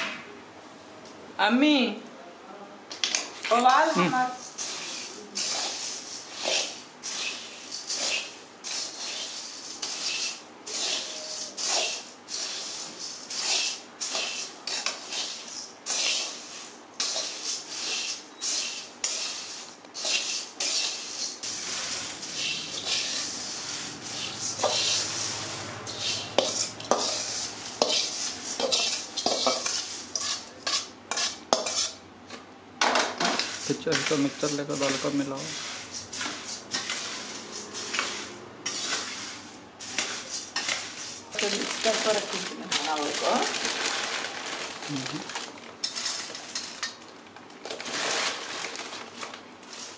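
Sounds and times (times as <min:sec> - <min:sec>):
puffed rice stirred in metal pan: 0:03.7 - 0:32.0, 0:33.2 - 0:47.0, 0:49.6 - 0:49.9.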